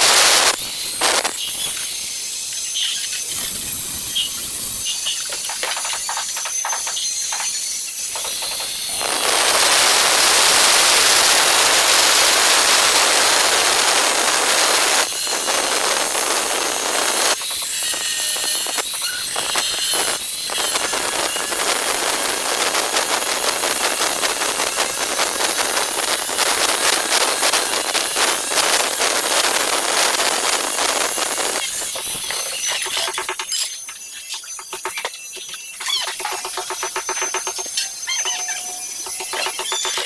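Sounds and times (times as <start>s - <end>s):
angle grinder cutting tile: 4.9s - 40.0s.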